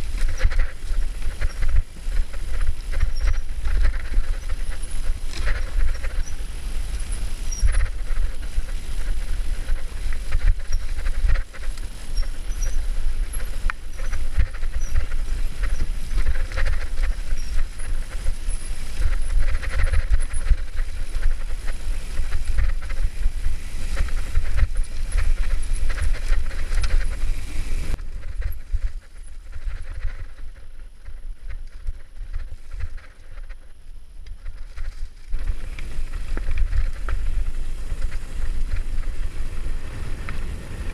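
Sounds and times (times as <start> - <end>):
mountain bike rattling: 0.0 - 40.9
wheels knocking on roots: 0.0 - 40.9
wind rumble on microphone: 0.0 - 40.9.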